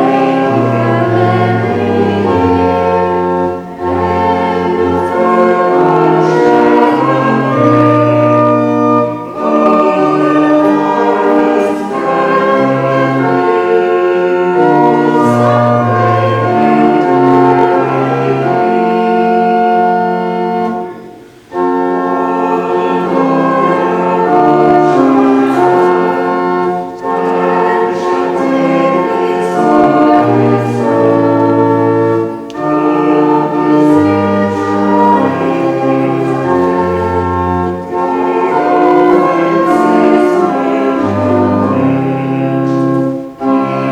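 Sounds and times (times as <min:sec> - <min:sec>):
organ chords: 0:00.0 - 0:43.9
voices singing a hymn: 0:00.0 - 0:43.9.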